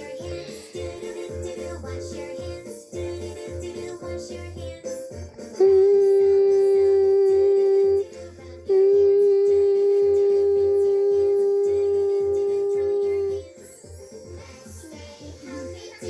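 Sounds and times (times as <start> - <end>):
children's song music: 0.0 - 16.0.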